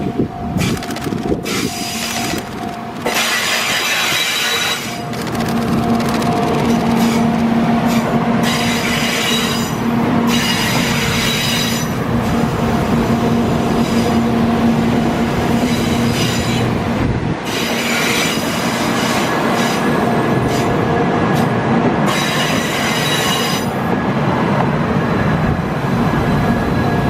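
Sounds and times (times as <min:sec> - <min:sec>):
train rolling on rails: 0:00.0 - 0:27.0.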